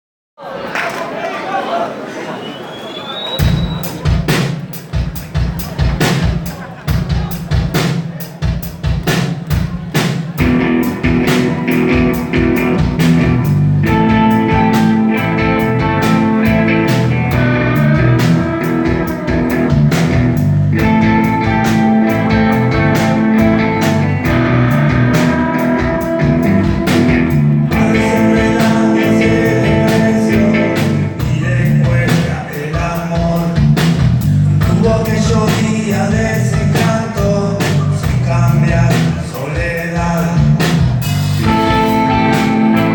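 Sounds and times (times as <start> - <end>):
rock band playing live: 3.4 - 42.9.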